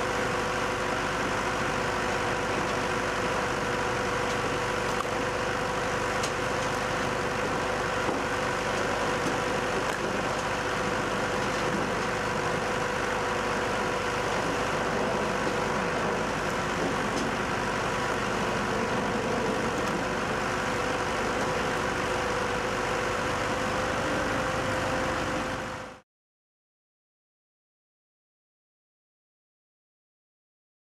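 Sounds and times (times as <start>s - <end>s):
firewood processor humming: 0.0s - 26.0s.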